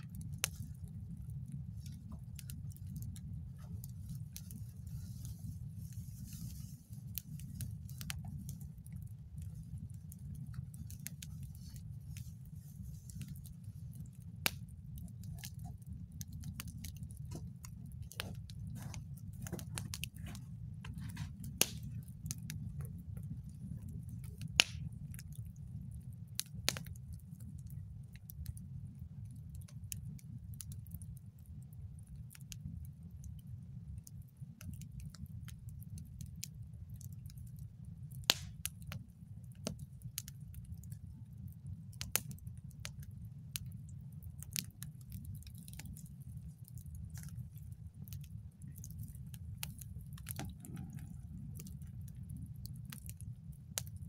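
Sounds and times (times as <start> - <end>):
campfire crackling with pops: 0.0 - 54.0
low rumble of fire: 0.0 - 54.0.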